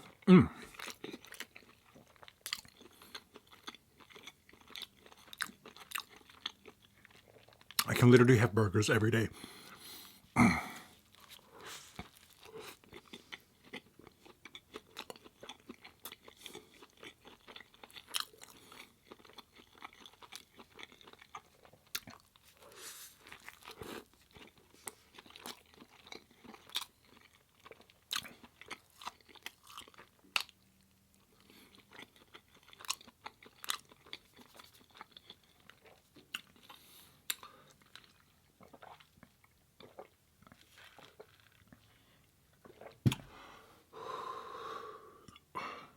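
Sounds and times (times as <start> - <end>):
person chewing and crunching food: 0.0 - 43.4.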